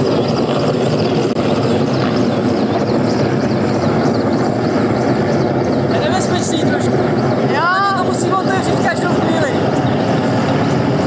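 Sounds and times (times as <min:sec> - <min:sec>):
helicopter rotors beating: 0:00.0 - 0:11.0.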